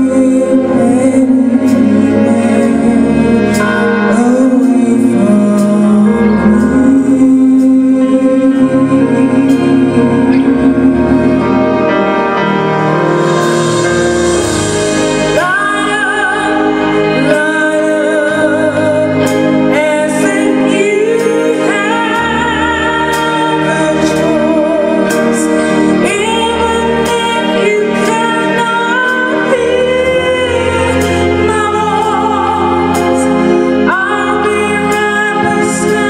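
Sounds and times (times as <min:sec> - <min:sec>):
woman singing with vibrato: 0:00.0 - 0:12.0, 0:15.0 - 0:36.0
live band music: 0:00.0 - 0:36.0.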